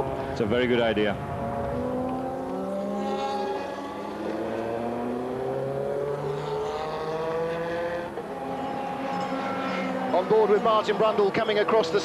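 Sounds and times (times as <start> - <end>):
racing car engine from cockpit: 0.0 - 12.0.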